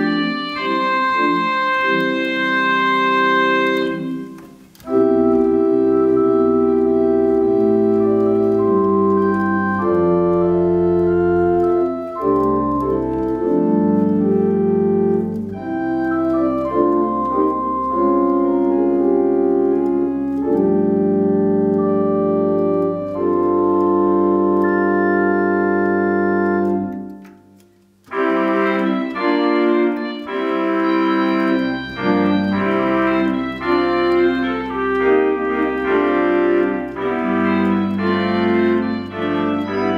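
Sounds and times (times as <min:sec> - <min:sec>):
electronic organ chords: 0:00.0 - 0:39.9.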